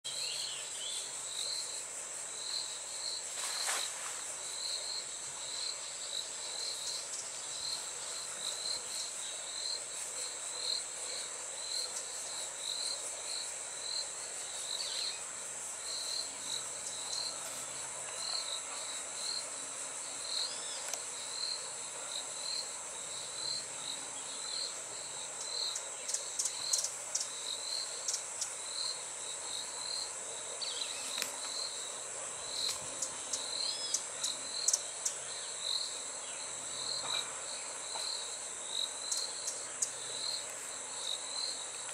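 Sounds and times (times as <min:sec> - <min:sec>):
insect chirps: 0:00.0 - 0:41.9
insects droning: 0:00.0 - 0:41.9.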